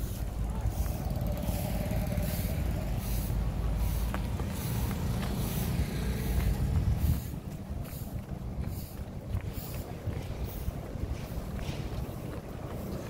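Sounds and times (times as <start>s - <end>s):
passing motor traffic rumble: 0.0s - 13.0s.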